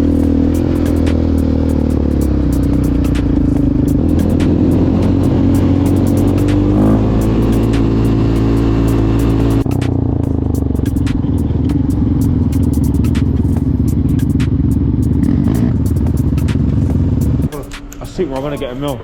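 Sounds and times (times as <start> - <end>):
quad bike engine running: 0.0 - 17.7.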